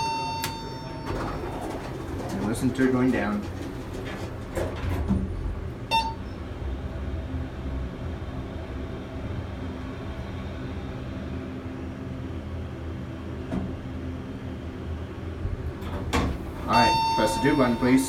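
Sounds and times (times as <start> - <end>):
elevator rumble: 0.0 - 18.0.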